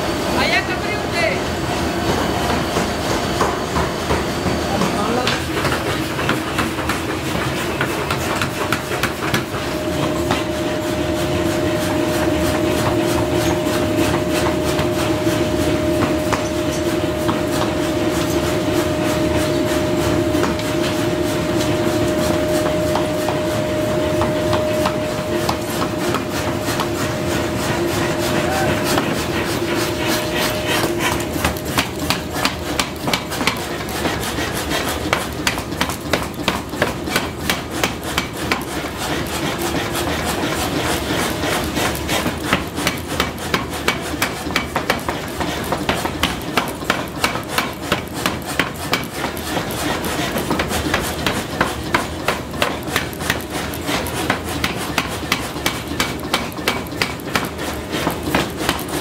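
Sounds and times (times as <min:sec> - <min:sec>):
machine running: 0:00.0 - 0:59.0
power hammer striking iron: 0:02.1 - 0:59.0.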